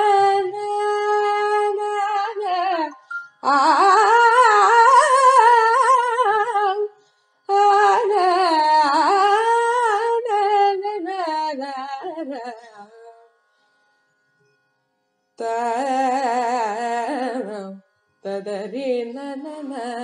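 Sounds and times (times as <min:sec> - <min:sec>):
woman singing: 0:00.0 - 0:13.2, 0:15.4 - 0:20.0.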